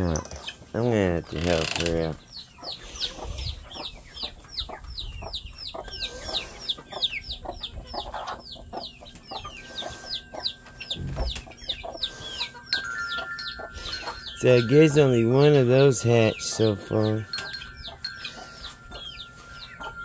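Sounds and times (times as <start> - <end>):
baby chick peeping: 0.0 - 20.0.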